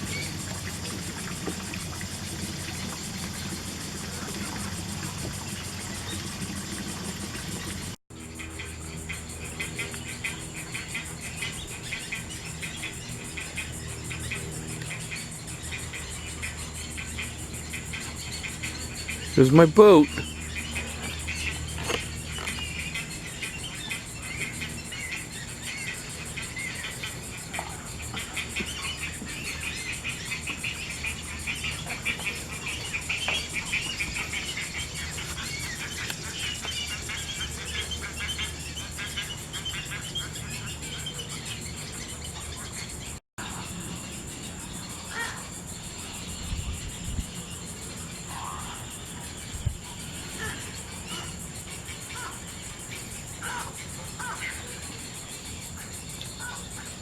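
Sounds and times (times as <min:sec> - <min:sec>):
high insect whine: 0:00.0 - 0:57.0
insects pulsing buzz: 0:00.0 - 0:57.0.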